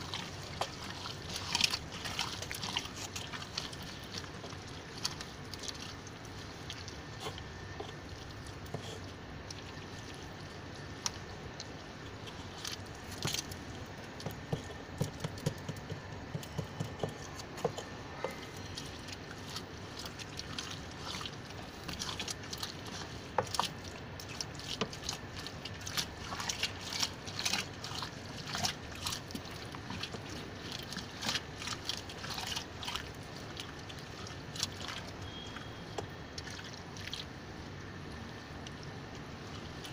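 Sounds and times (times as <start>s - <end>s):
wet compost squelching and sloshing: 0.0s - 39.9s.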